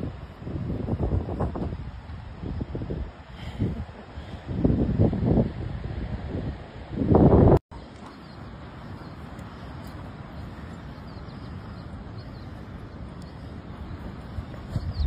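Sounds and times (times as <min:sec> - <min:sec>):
wind on microphone: 0:00.0 - 0:07.6, 0:08.9 - 0:15.0.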